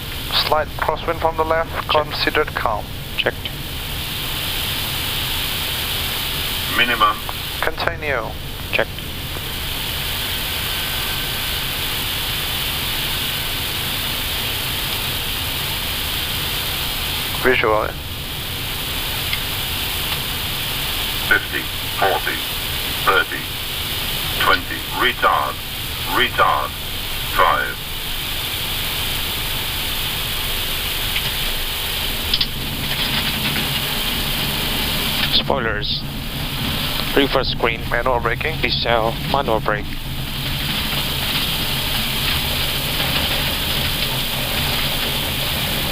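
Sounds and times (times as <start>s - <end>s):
rushing air and engine hiss: 0.0s - 45.9s.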